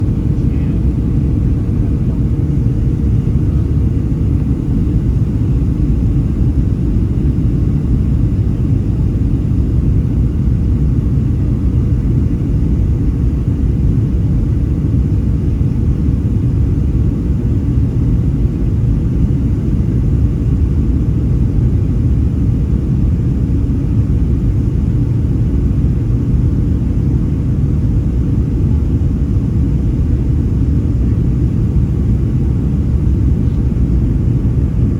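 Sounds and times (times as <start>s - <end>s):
jet engines rumbling: 0.0s - 14.6s, 19.5s - 34.9s
faint hum: 0.0s - 34.9s.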